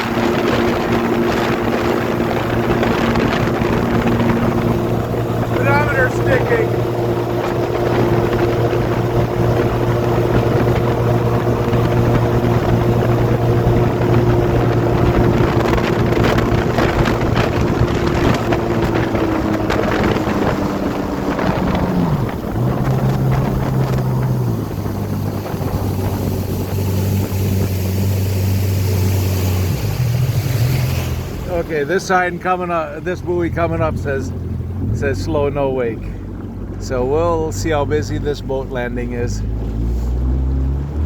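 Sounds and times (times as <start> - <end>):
personal watercraft engine: 0.0 - 41.0.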